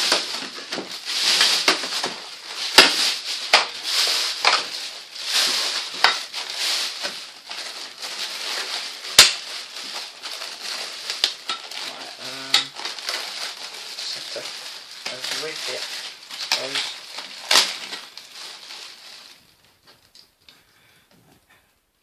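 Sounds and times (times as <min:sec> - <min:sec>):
plastic bag crinkling: 0:00.0 - 0:20.4.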